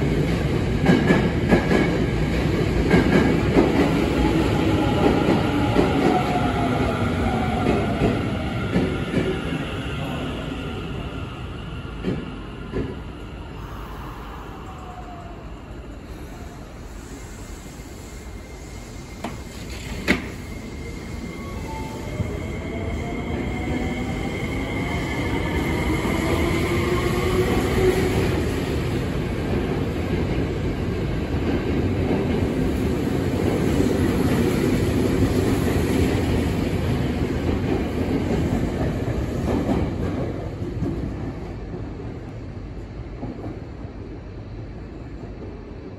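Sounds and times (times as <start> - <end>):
train cars running noise: 0.0 - 45.9.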